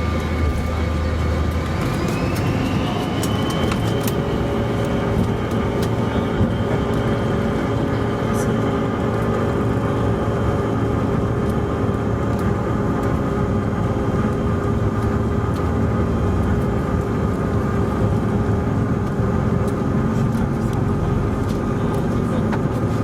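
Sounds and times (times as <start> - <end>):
jet cabin engine roar: 0.0 - 23.0.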